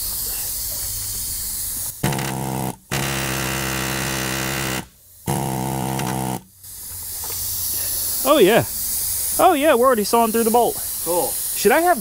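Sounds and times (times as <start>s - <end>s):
air hammer buzzing bursts: 1.0s - 12.0s.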